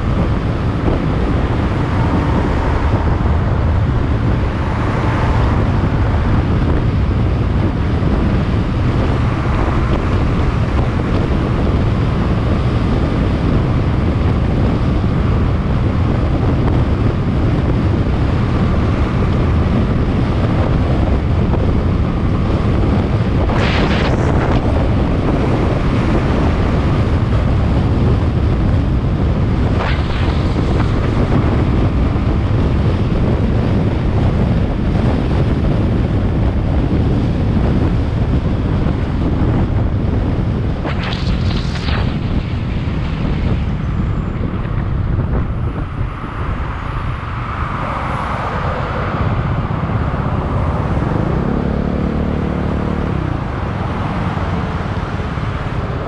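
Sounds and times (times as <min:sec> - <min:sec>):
rumble of riding on concrete road: 0:00.0 - 0:56.0
vehicle engine hum: 0:00.0 - 0:56.0
wind buffeting microphone: 0:00.0 - 0:56.0.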